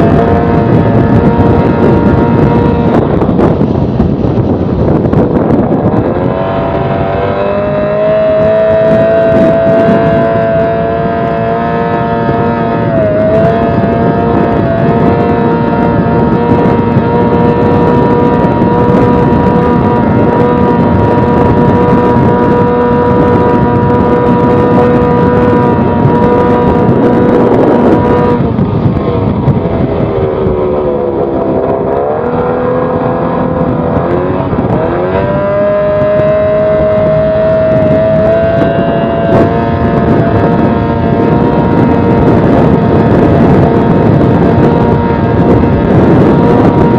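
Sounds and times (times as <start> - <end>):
outboard motor running: 0.0 - 46.9
rushing wind: 0.0 - 46.9.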